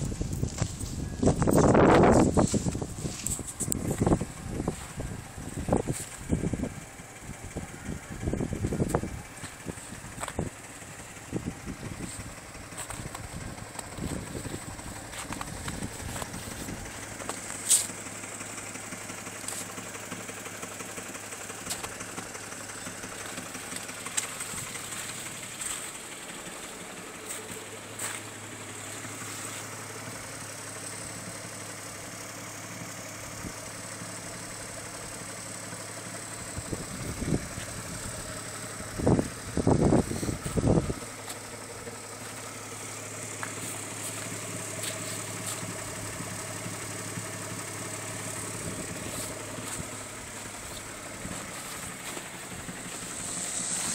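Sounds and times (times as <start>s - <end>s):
car engine idling: 0.0s - 53.9s
low exhaust bursts: 0.0s - 53.9s.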